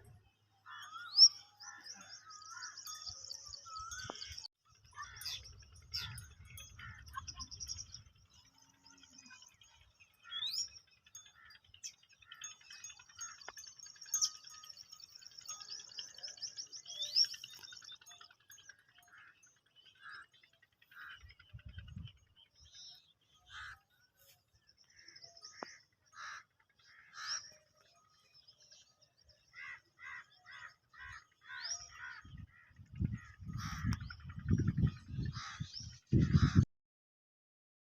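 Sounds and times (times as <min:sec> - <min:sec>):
birds chirping and trilling: 0:00.0 - 0:36.7.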